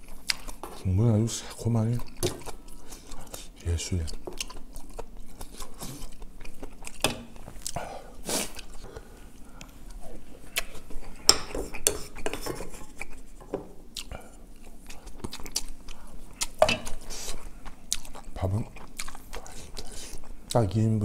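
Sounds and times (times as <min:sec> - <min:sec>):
close-up chewing: 0:00.0 - 0:20.6.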